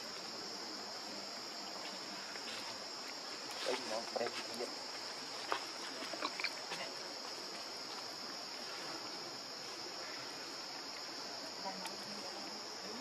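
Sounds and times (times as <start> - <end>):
forest insects droning: 0.0 - 13.0.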